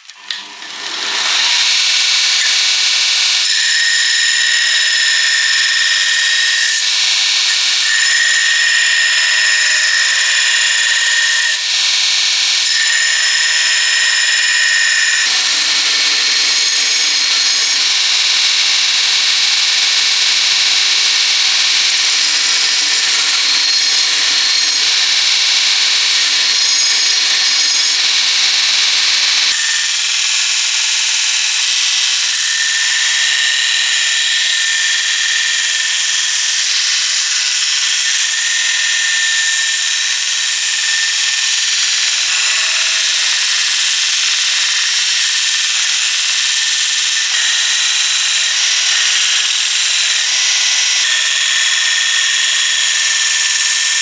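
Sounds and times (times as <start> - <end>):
power tool whining on steel: 0.0 - 54.0.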